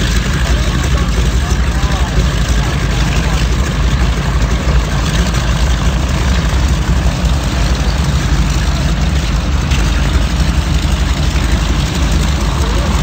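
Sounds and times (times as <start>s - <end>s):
radial engines rumbling: 0.0s - 13.0s.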